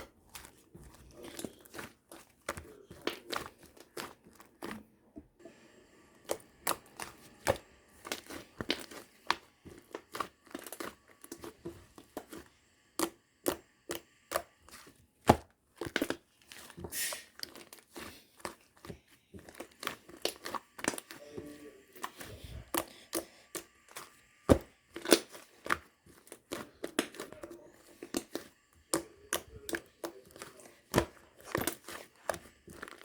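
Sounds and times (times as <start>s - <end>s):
food preparation tapping and clicking: 0.0s - 33.0s.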